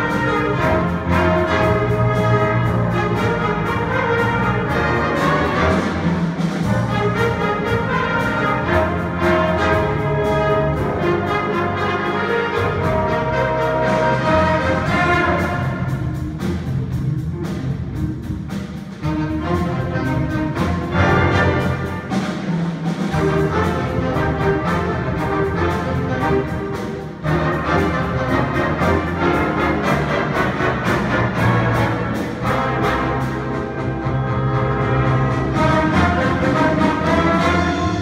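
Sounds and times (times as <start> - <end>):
jazz big band playing: 0.0 - 38.0.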